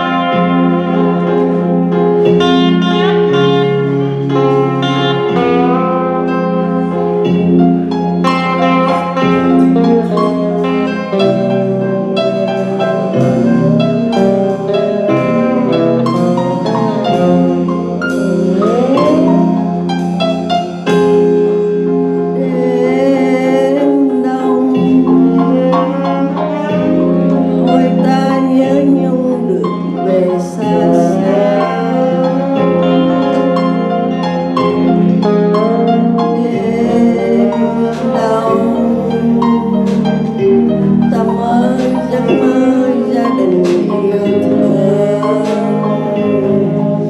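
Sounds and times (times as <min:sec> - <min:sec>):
drum kit: 0:00.0 - 0:47.0
electric keyboard: 0:00.0 - 0:47.0
sliding note rising: 0:00.0 - 0:47.0.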